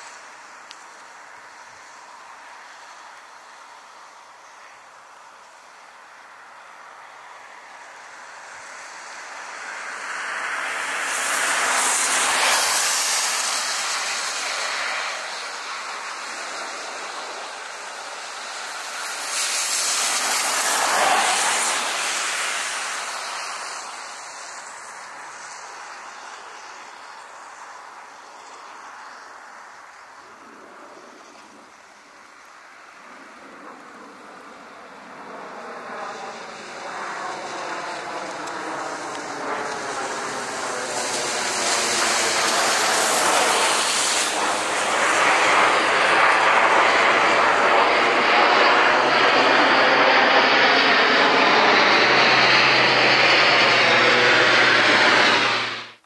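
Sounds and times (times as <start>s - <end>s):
turboprop aircraft engines droning: 0.0s - 56.0s.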